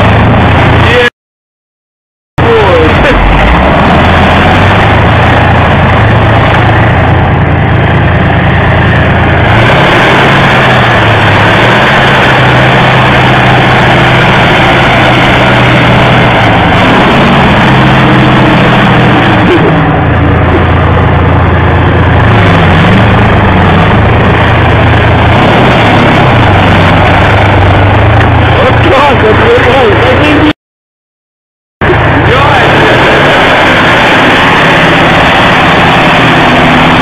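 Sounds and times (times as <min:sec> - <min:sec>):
heavy tank engine running: 0:00.0 - 0:01.1, 0:02.4 - 0:30.5, 0:31.8 - 0:37.0.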